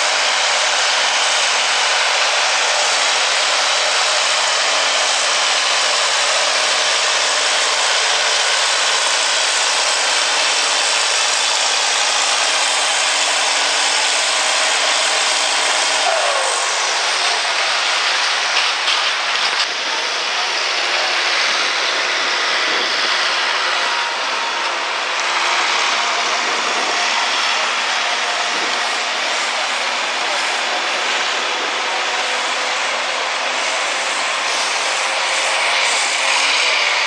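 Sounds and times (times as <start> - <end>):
loud steady rushing noise: 0.0 - 37.0
tractor engine idling: 0.0 - 37.0.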